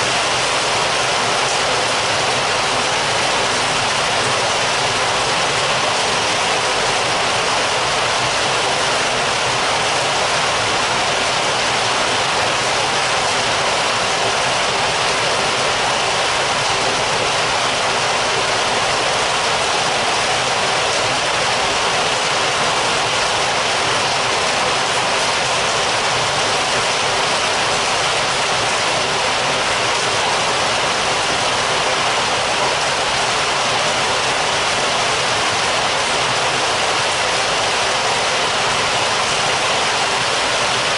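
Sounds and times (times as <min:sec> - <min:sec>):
heavy rain heard from indoors: 0:00.0 - 0:40.9.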